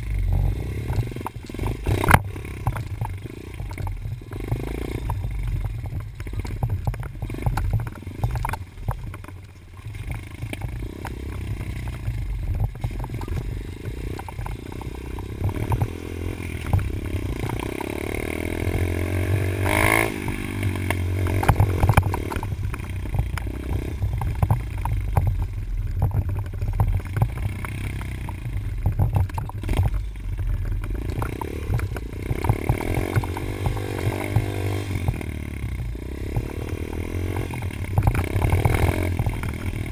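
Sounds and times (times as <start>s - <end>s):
dirt bike engine revving: 0.0s - 8.6s, 9.8s - 39.9s
bike clattering over rough ground: 0.0s - 39.9s.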